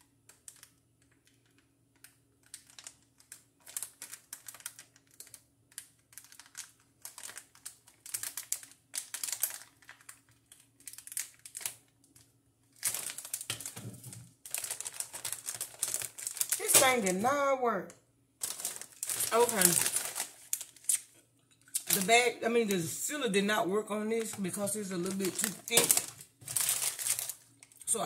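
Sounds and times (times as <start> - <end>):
plastic bag crinkling: 0.3 - 17.4, 18.4 - 23.0, 24.0 - 28.0.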